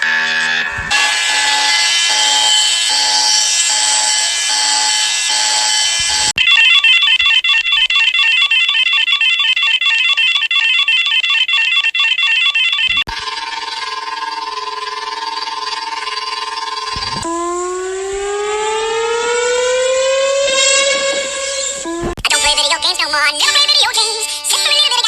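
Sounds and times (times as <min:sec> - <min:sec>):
high warbling alarm tone: 0:00.0 - 0:22.5
dense multi-tone alarm: 0:00.0 - 0:25.0.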